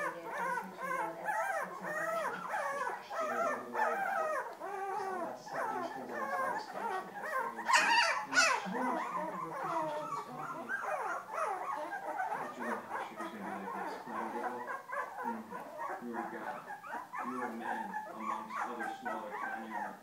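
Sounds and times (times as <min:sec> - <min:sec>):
puppies whimpering and yipping: 0:00.0 - 0:20.0
puppy squeals: 0:00.0 - 0:20.0.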